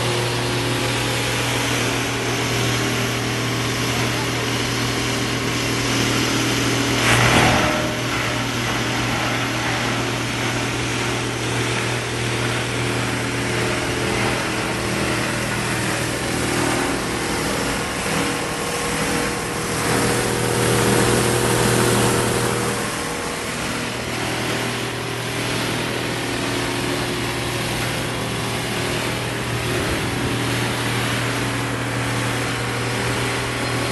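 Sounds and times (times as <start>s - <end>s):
granulator machine running: 0.0s - 33.9s.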